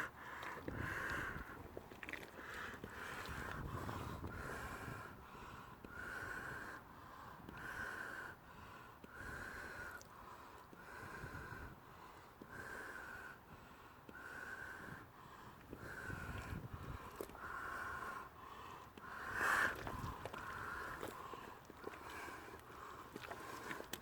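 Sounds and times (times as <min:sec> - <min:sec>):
person breathing hard: 0:00.0 - 0:01.6, 0:02.4 - 0:24.0.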